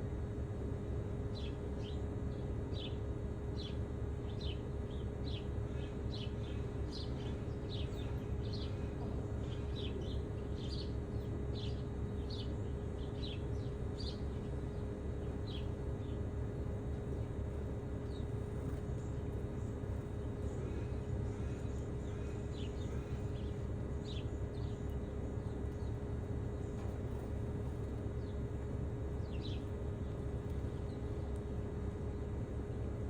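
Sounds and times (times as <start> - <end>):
faint constant hum: 0.0 - 33.0
small birds chirping: 3.6 - 27.3, 28.0 - 31.4.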